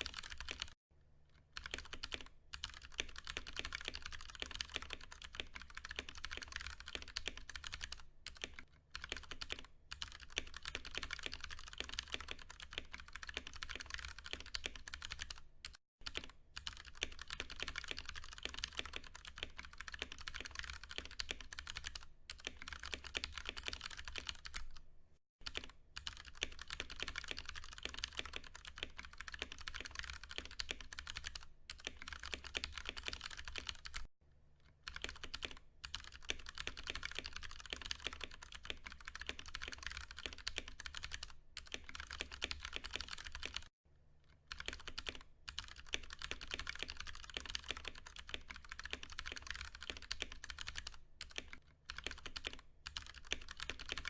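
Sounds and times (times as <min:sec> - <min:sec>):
fast typing on mechanical keyboard: 0:00.0 - 0:00.8, 0:01.5 - 0:24.8, 0:25.4 - 0:34.1, 0:34.8 - 0:43.7, 0:44.5 - 0:54.0.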